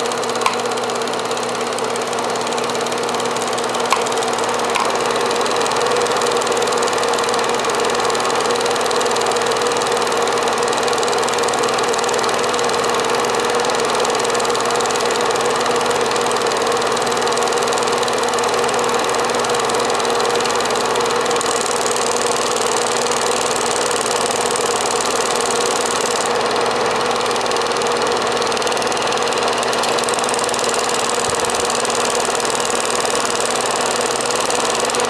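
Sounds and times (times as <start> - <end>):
film projector whirring: 0.0 - 35.0.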